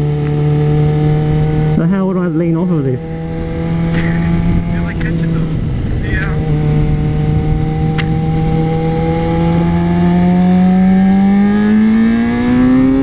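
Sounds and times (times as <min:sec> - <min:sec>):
wind rumble: 0:00.0 - 0:13.0.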